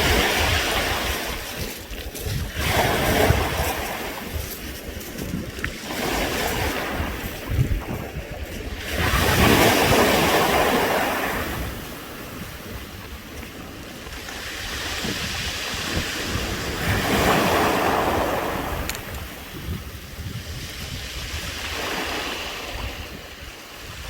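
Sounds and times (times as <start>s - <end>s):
waves rattling pebbles: 0.0s - 24.0s
wind on microphone: 0.0s - 24.0s.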